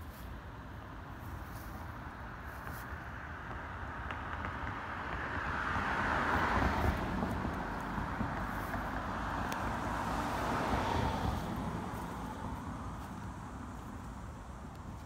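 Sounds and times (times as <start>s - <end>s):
passing road traffic: 0.0s - 15.0s.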